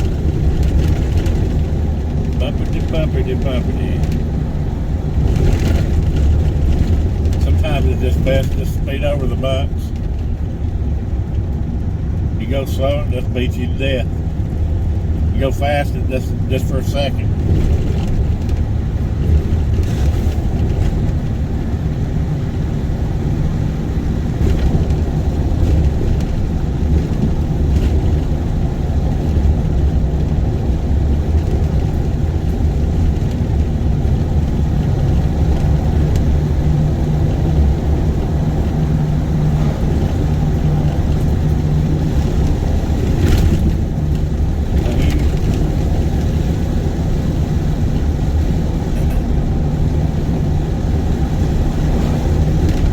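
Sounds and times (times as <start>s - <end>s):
car road and engine rumble: 0.0s - 52.9s
knocks and rattles over bumps: 0.0s - 52.9s.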